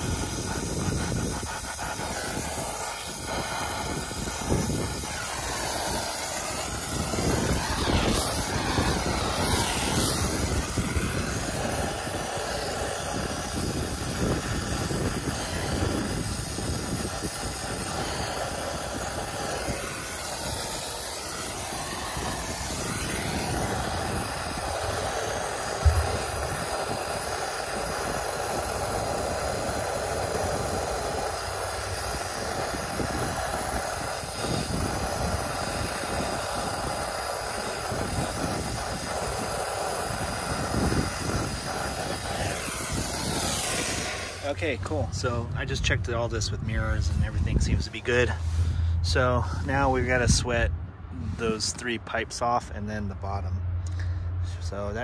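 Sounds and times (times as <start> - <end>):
torch flame hissing: 0.0 - 52.6.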